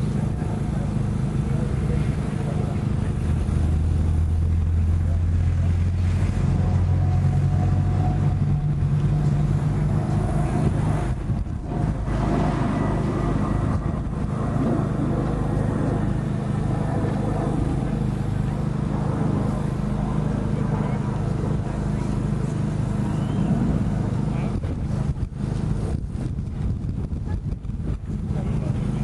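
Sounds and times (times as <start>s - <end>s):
engine running with low hum: 0.0s - 29.0s.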